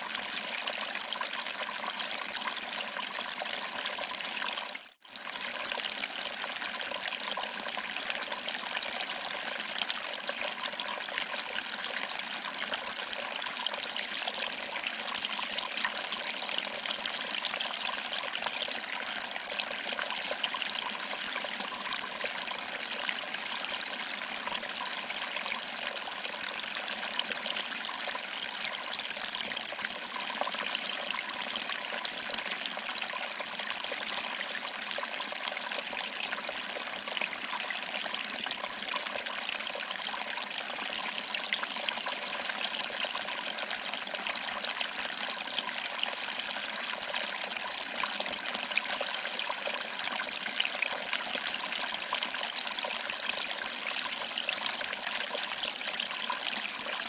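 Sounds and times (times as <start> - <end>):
water trickling over rocks: 0.0 - 57.0.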